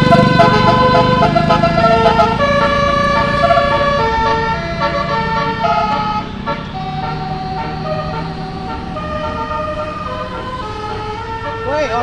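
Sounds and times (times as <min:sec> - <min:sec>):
multi-tone bus horn melody: 0:00.0 - 0:12.0.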